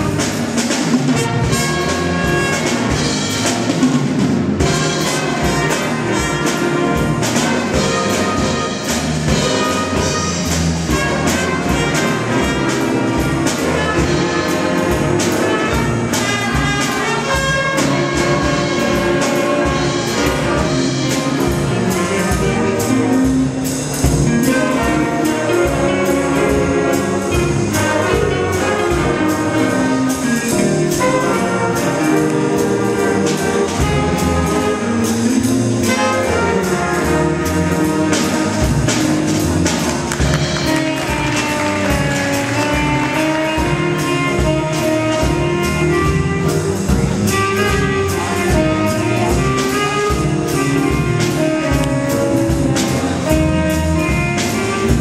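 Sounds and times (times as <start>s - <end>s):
jazz band playing: 0.0s - 55.0s.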